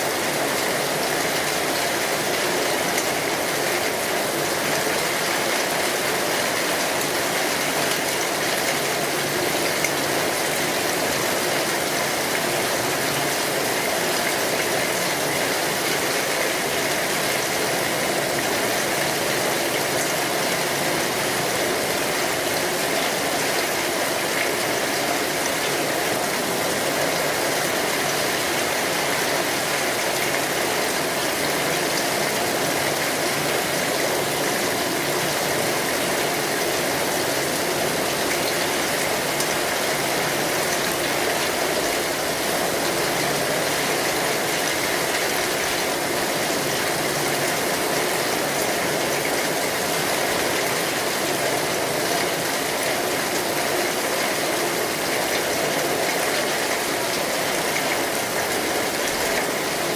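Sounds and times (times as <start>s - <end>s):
rain on an umbrella: 0.0s - 59.9s.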